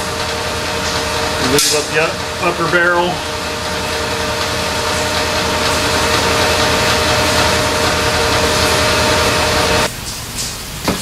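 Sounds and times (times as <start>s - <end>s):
machine motor humming: 0.0s - 9.9s.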